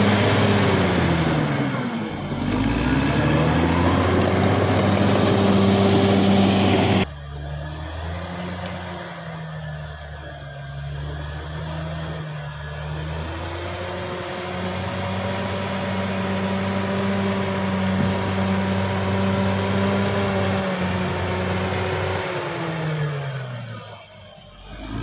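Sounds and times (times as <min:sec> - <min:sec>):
bulldozer diesel engine revving: 0:00.0 - 0:25.0.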